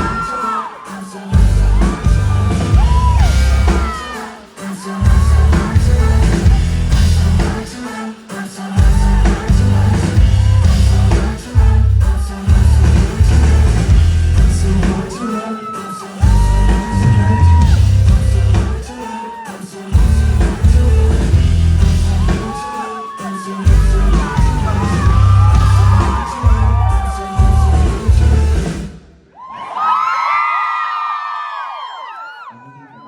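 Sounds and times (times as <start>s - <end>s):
fans screaming and whooping: 0.0s - 28.8s, 29.4s - 33.0s
live band playing pop song: 0.0s - 28.9s.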